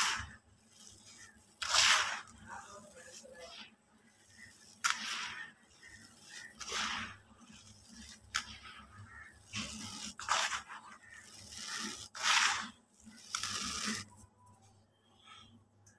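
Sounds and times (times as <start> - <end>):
concrete lumps crunching: 0.0 - 14.2.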